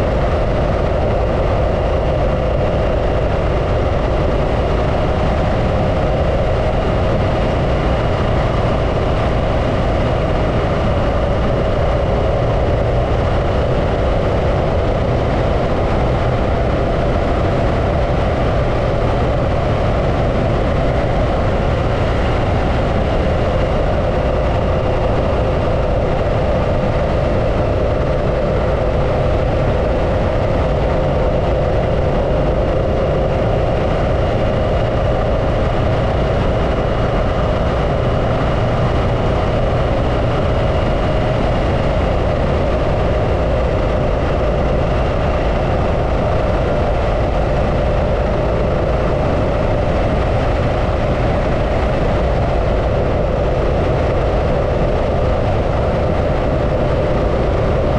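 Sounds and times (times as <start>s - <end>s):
low rumble of riding noise: 0.0s - 57.9s.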